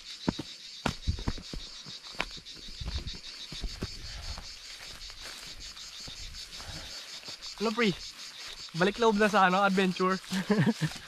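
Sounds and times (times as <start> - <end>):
footsteps through brush: 0.0 - 11.0
insects chorus: 0.0 - 11.0.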